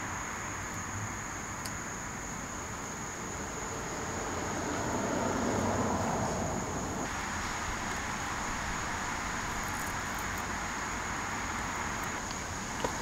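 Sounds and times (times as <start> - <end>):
high-pitched insect drone: 0.0 - 13.0
low traffic rumble: 0.0 - 13.0.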